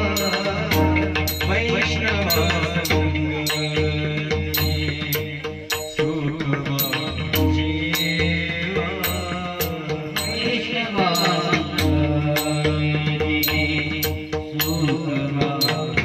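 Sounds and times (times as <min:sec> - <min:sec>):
drum strokes: 0:00.0 - 0:16.0
small hand cymbals striking: 0:00.0 - 0:16.0.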